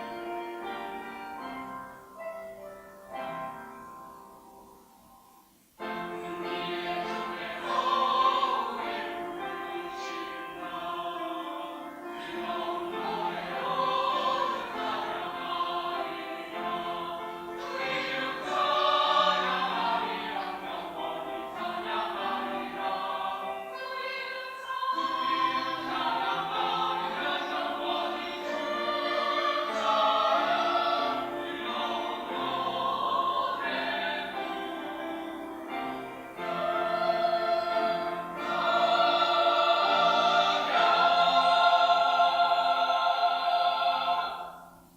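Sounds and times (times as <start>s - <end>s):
church choir singing: 0.0s - 44.9s.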